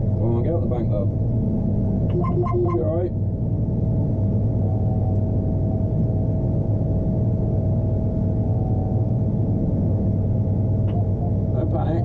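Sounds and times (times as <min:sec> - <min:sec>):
combine harvester engine drone: 0:00.0 - 0:12.0
thin steady whine: 0:00.0 - 0:12.0.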